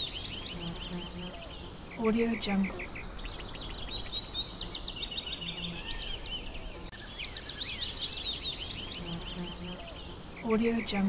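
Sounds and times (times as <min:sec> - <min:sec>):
low steady hiss: 0:00.0 - 0:11.0
small birds chirping: 0:00.0 - 0:11.0.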